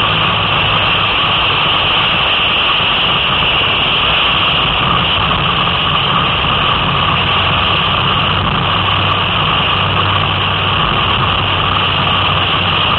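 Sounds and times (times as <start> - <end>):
car engine hum: 0.0 - 12.9
road noise on wet road: 0.0 - 12.9.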